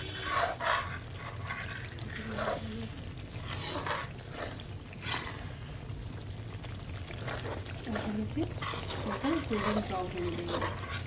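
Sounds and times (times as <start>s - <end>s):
metal spoon stirring and scraping: 0.0s - 5.7s, 6.9s - 11.0s
spices frying in oil: 0.0s - 11.0s.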